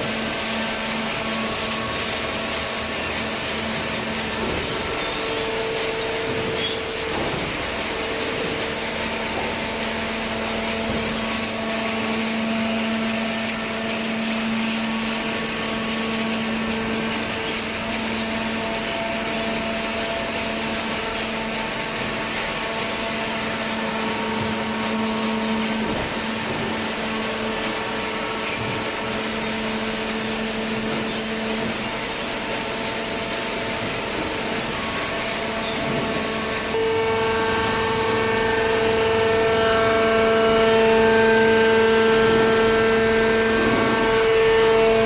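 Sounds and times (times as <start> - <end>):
baler mechanical hum: 0.0 - 45.0.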